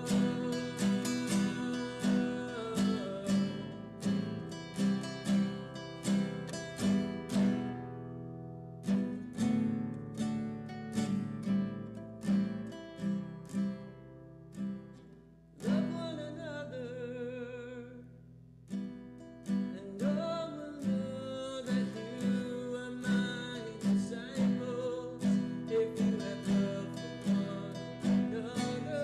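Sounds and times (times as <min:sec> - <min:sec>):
plucked guitar pattern: 0:00.0 - 0:29.0.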